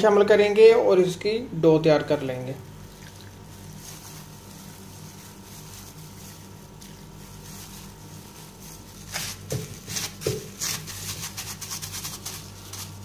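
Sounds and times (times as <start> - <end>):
steady low hum: 0.0 - 13.0
squelching dough kneading: 2.0 - 13.0
plastic glove crinkling: 2.1 - 13.0.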